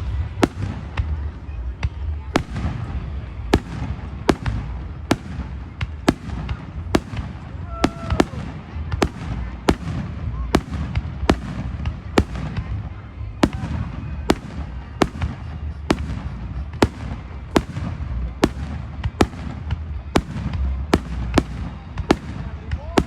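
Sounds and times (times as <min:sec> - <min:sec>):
distant fireworks rumble: 0:00.0 - 0:23.0
fireworks sharp bangs: 0:00.0 - 0:23.0.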